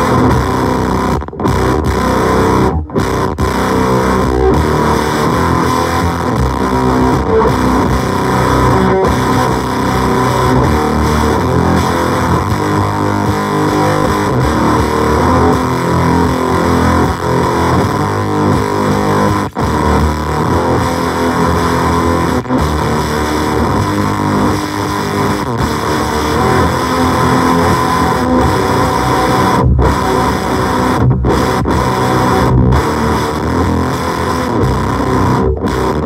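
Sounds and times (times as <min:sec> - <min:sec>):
fuzzed electric guitar: 0:00.0 - 0:36.0.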